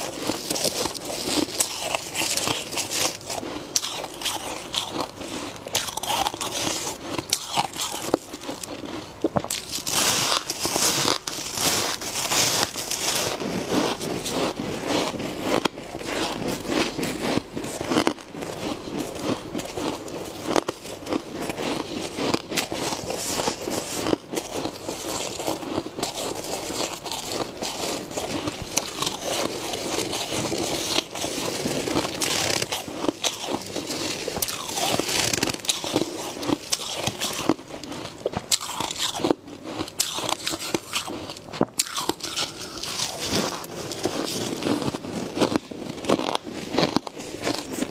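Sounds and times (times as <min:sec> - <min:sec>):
frost being chewed crunching: 0:00.0 - 0:47.9.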